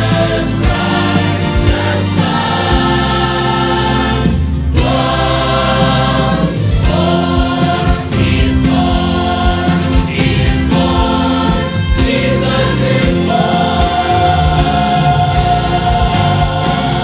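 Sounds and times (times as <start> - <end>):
church choir singing: 0.0 - 17.0
instrumental accompaniment: 0.0 - 17.0.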